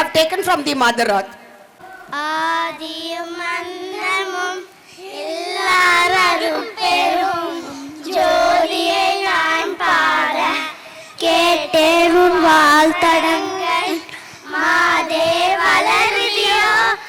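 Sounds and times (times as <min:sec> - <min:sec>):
children singing devotional song: 0:01.8 - 0:17.0.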